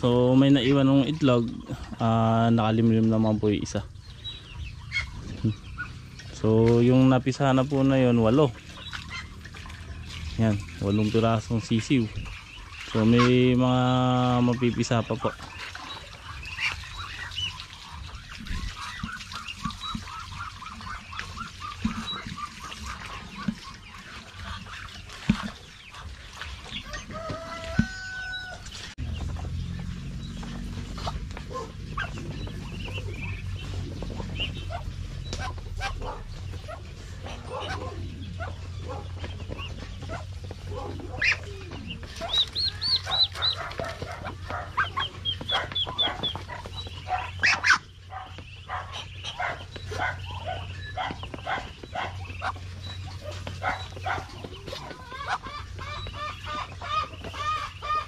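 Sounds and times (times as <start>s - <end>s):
ducklings and chickens peeping: 0.0s - 58.0s
farmyard animal calls: 0.0s - 58.0s.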